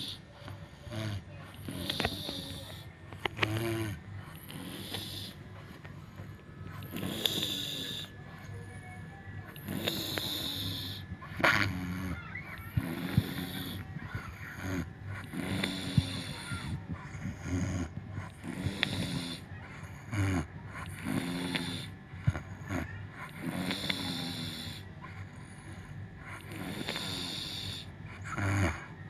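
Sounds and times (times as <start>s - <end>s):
woman snoring: 0.0s - 25.8s, 26.4s - 29.0s.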